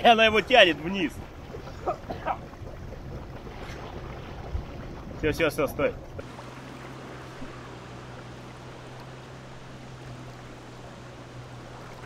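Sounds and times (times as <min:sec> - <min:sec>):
faint water wash: 0:00.0 - 0:12.0
jet ski engine humming: 0:00.0 - 0:12.0.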